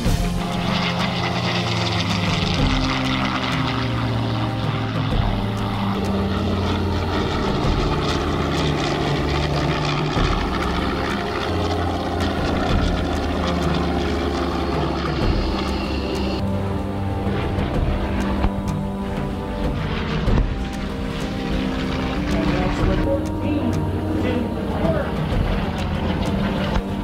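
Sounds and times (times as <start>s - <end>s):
propeller aircraft engines droning: 0.0s - 27.0s.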